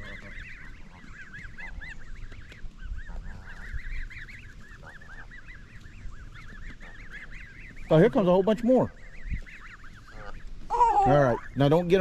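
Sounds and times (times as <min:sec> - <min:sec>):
goslings peeping: 0:00.0 - 0:12.0
low goose calls: 0:00.0 - 0:12.0.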